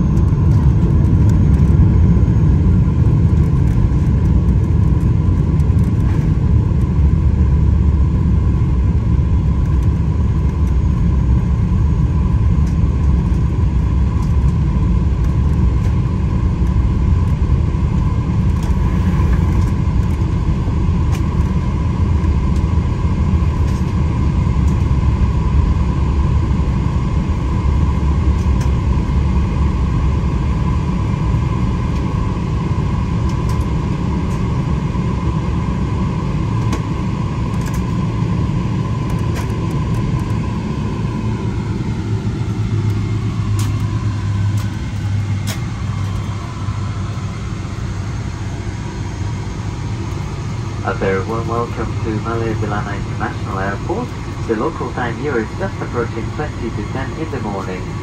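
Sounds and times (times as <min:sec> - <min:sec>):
aircraft cabin rumble: 0:00.0 - 0:58.0
jet engine whine: 0:00.0 - 0:58.0.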